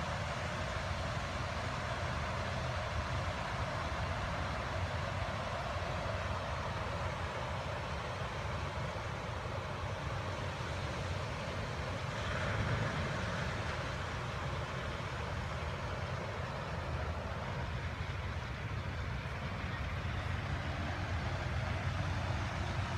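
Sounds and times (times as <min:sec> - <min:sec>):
fountain water jets rushing: 0:00.0 - 0:22.9.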